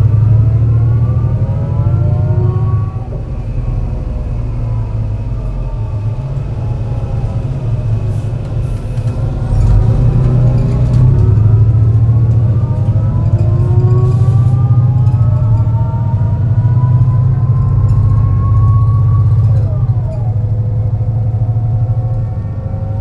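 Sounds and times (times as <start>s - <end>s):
bus engine pulling under load: 0.0s - 23.0s
gearbox whine: 0.0s - 23.0s.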